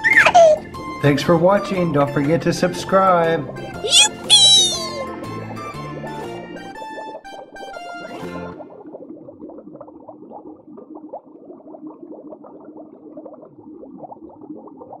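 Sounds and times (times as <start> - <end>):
water bubbling and gurgling: 0.0 - 1.8, 3.9 - 15.0.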